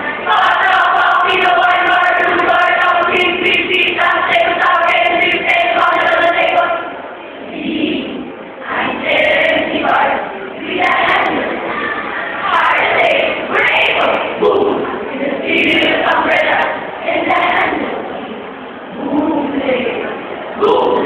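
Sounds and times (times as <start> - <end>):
group chanting in unison: 0.0 - 18.2.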